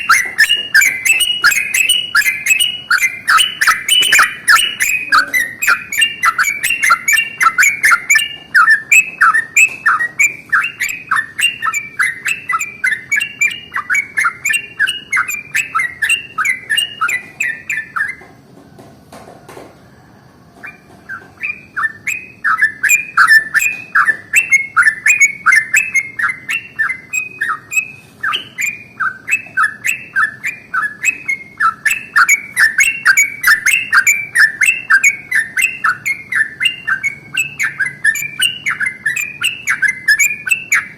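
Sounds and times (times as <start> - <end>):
bird singing rapid sharp notes: 0.0 - 18.2, 20.6 - 40.9.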